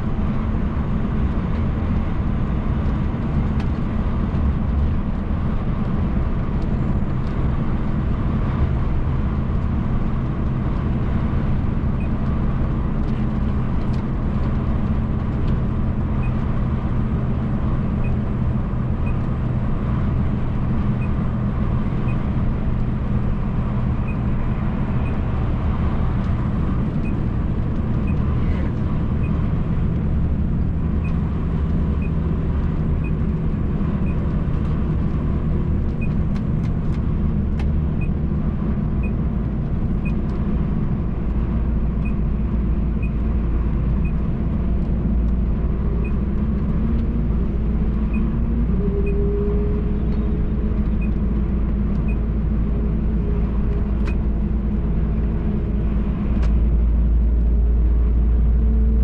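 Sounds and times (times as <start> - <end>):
truck diesel engine drone: 0.0 - 59.0
tyre and road noise: 0.0 - 59.0.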